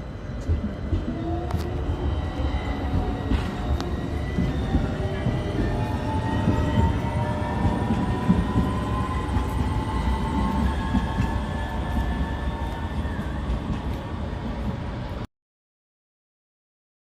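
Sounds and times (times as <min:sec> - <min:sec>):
tram rumbling on rails: 0:00.0 - 0:15.3.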